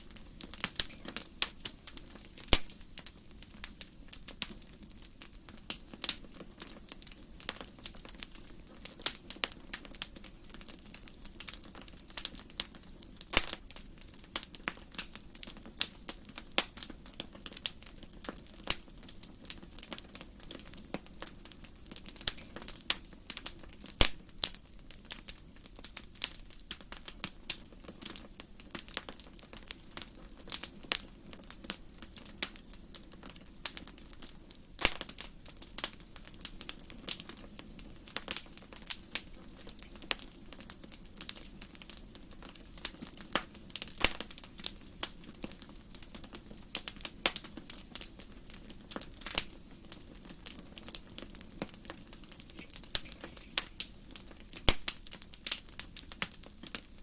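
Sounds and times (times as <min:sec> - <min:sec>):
faint low hiss: 0:00.0 - 0:57.0
wood fire crackling: 0:00.0 - 0:57.0.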